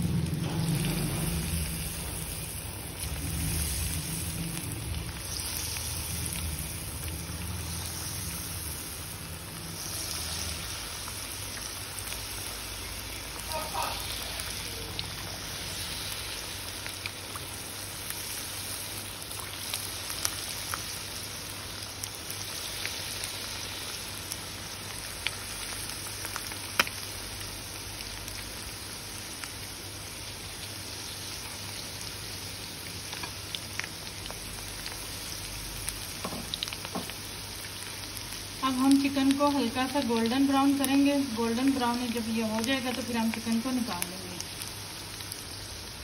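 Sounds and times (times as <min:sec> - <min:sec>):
chicken frying in hot oil: 0:00.0 - 0:46.0
oil crackling and popping: 0:00.0 - 0:46.0.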